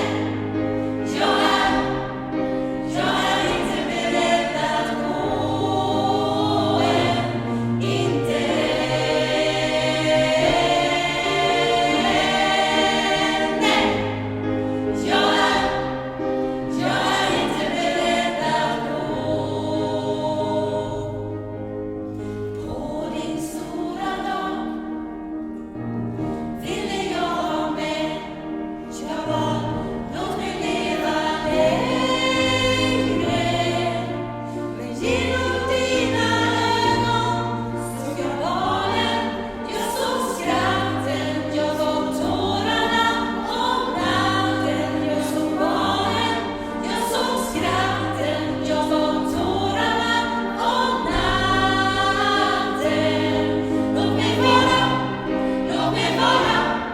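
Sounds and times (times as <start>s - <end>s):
gospel choir singing: 0.0s - 56.9s.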